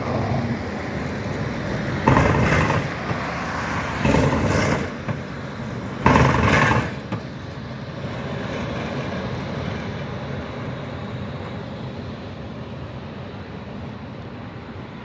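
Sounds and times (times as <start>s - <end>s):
traffic rumble: 0.0s - 15.0s
tram rolling past: 0.0s - 15.0s.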